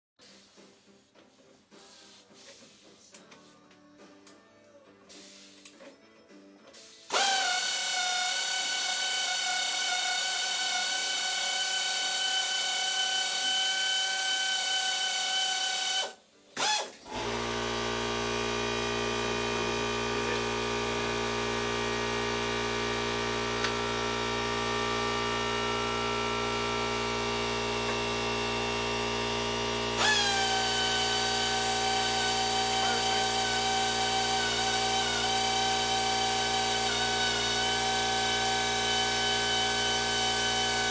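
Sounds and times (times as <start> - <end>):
power tool motor whining: 7.1 - 40.9.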